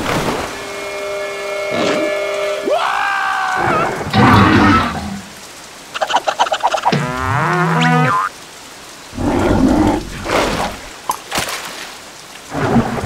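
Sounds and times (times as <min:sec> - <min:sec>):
rain pattering: 0:02.0 - 0:13.0.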